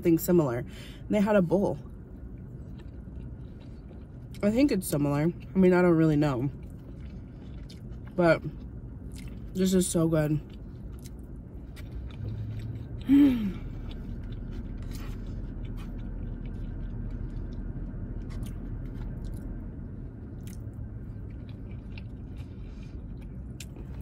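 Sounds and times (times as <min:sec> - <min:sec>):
steady low hum: 0:00.0 - 0:24.0
person chewing food: 0:01.8 - 0:04.5, 0:06.2 - 0:09.6, 0:10.4 - 0:24.0.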